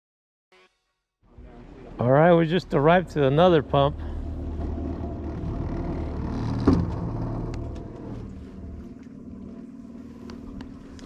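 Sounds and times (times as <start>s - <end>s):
boat engine running: 1.3s - 11.0s.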